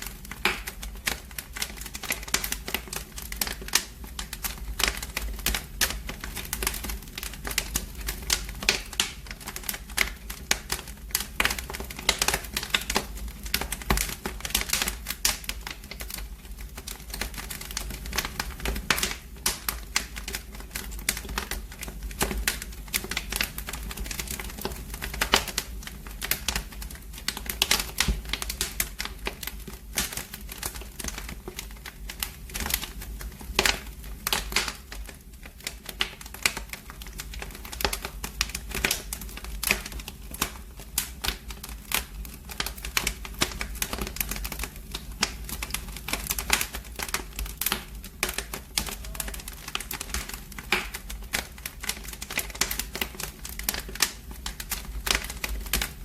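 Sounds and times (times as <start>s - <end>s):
fire pops and snaps: 0.0s - 56.0s
low rumble of flames: 0.0s - 56.0s
wood fire crackling: 0.0s - 56.0s.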